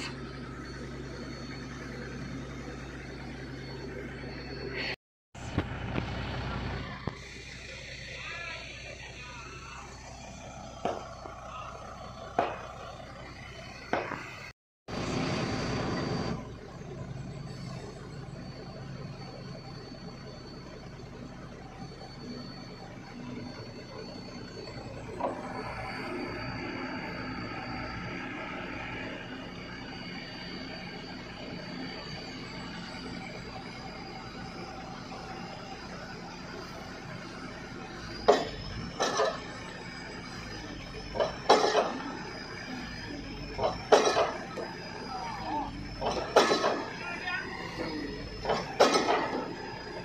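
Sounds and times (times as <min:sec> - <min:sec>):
diesel engine running: 0:00.0 - 0:50.0
thin high whine: 0:00.0 - 0:50.0.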